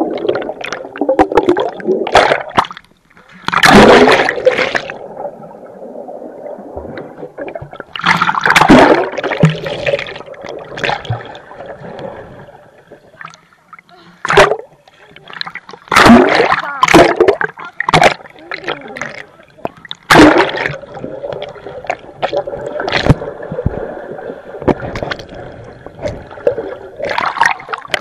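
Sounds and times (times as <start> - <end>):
muffled water splashing: 0.0 - 28.0.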